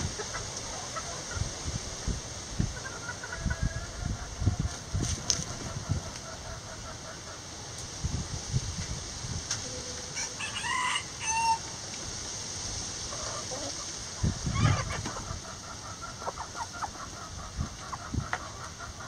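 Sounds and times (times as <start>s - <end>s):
chickens clucking and calling: 0.0s - 8.2s, 10.0s - 12.1s, 12.7s - 19.0s.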